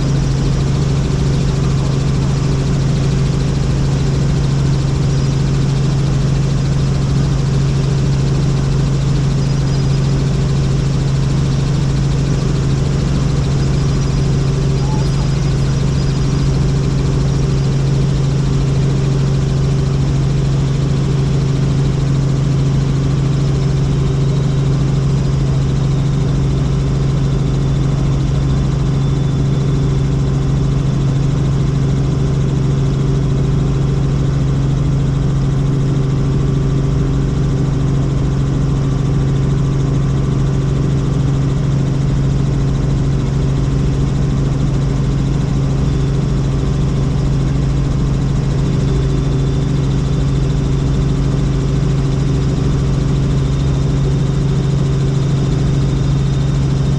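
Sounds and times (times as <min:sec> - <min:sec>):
helicopter drone: 0:00.0 - 0:56.9.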